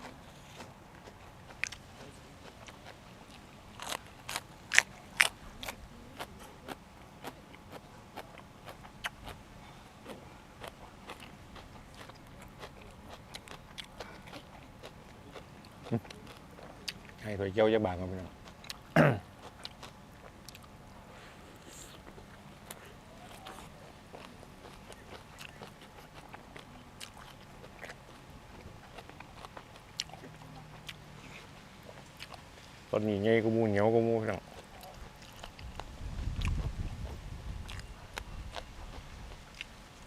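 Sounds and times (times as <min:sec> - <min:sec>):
chewing and biting food: 0:00.0 - 0:17.3, 0:17.9 - 0:32.8, 0:34.2 - 0:40.0.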